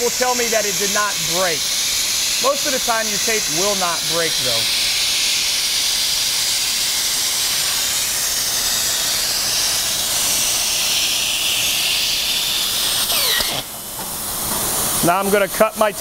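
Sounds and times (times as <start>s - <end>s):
hot air hissing from nozzle: 0.0s - 16.0s.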